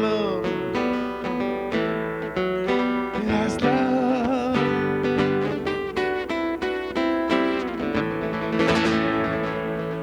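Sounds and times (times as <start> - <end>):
acoustic guitar playing: 0.0 - 10.0.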